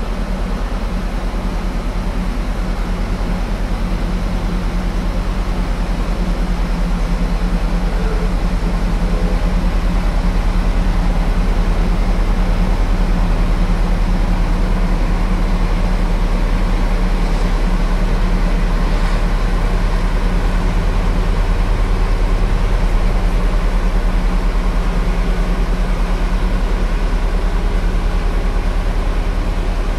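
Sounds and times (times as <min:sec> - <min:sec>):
farm machinery engine drone: 0:00.0 - 0:29.9.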